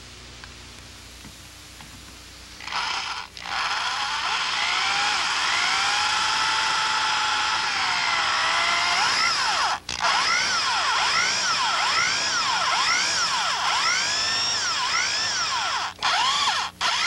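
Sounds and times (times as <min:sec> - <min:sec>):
electric drill whining: 0:02.6 - 0:17.0.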